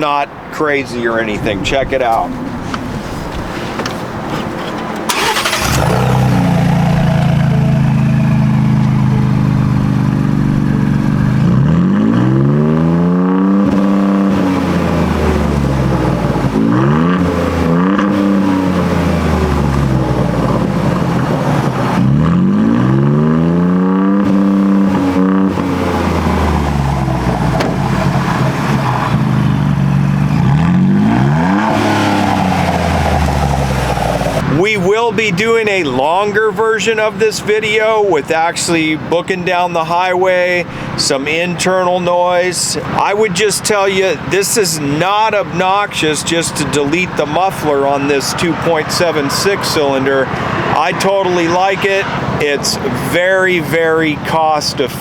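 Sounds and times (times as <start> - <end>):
car engine idling and revving: 1.2 - 36.2, 42.7 - 55.0.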